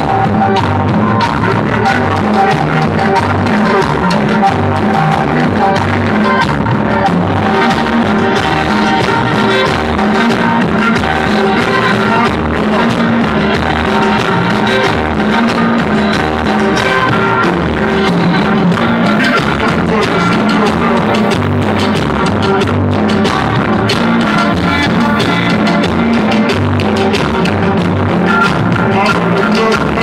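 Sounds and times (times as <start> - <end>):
loud dance music: 0.0 - 30.0.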